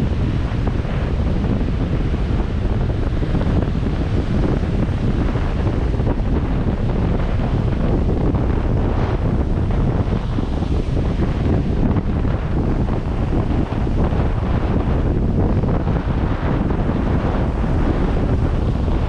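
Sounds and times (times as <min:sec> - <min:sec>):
vehicle driving on sand: 0:00.0 - 0:19.0
wind rumble on microphone: 0:00.0 - 0:19.0.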